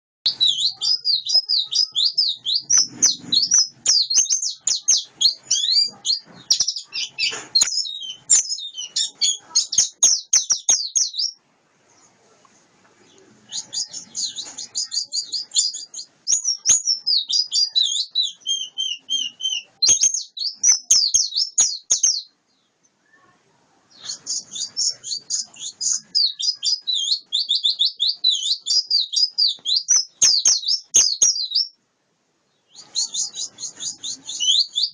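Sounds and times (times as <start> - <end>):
bird warbling song: 0.3 - 12.2, 13.0 - 23.3, 23.9 - 31.8, 32.5 - 34.9.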